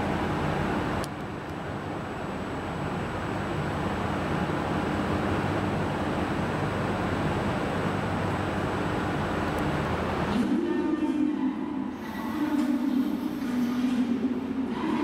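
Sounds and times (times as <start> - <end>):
electric train equipment hum: 0.0 - 15.0.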